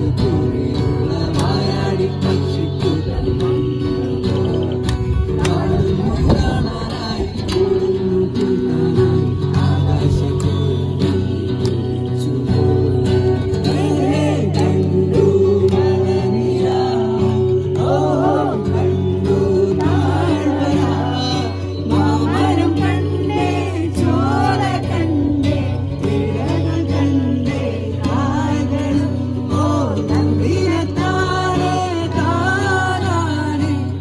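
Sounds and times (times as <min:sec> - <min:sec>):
guitar accompaniment: 0:00.0 - 0:34.0
person singing: 0:00.0 - 0:34.0.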